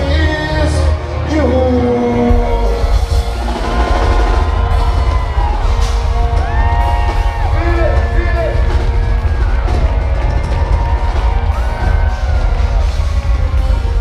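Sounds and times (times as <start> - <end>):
crowd whooping: 0.0 - 14.0
heavy bass and drums: 0.0 - 14.0
live band music: 0.0 - 14.0.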